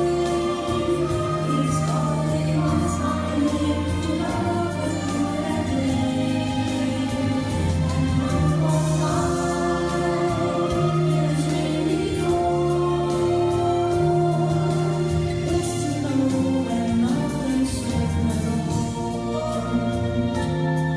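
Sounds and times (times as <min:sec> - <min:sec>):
church band worship music: 0:00.0 - 0:20.9
steady bass line: 0:00.0 - 0:20.9
voices singing held notes: 0:00.0 - 0:20.9.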